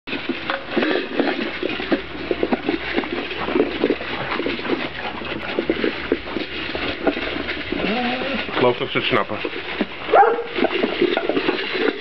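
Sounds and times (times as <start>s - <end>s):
puppies crunching kibble: 0.1s - 12.0s.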